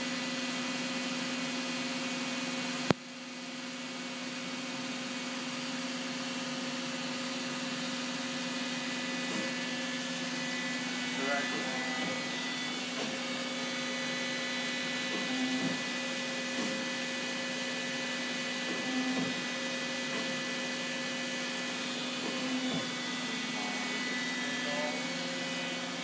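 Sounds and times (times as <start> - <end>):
lathe machine humming and whining: 0.0 - 26.0.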